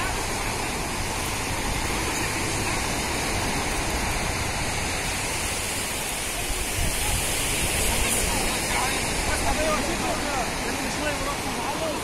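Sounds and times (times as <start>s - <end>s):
small surf waves breaking: 0.0s - 12.0s.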